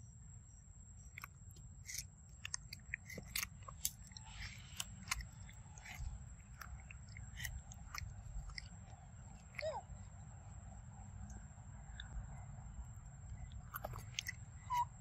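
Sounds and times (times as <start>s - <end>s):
monkey chewing fruit: 1.1s - 15.0s.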